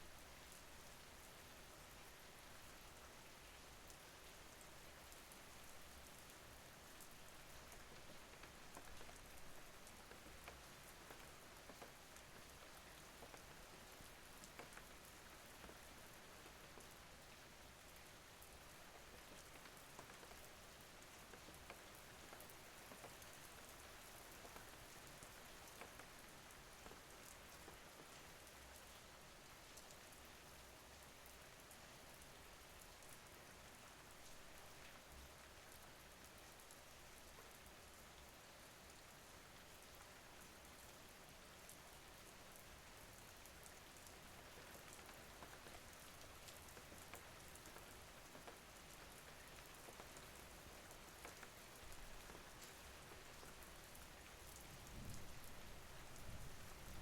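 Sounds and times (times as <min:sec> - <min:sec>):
rain hiss with drop ticks: 0:00.0 - 0:57.0.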